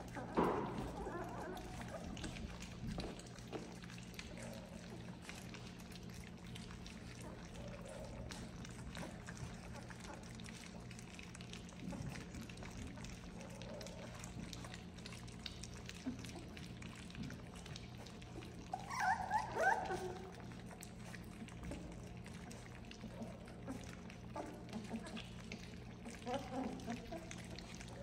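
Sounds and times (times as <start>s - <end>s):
puppy whining: 0.0s - 11.2s, 15.7s - 28.0s
puppies lapping and slurping food: 0.0s - 28.0s.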